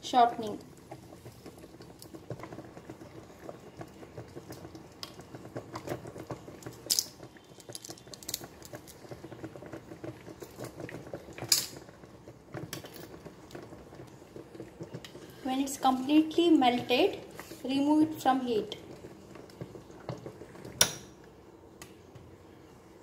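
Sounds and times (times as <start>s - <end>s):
water simmering in a pan: 0.0s - 23.0s.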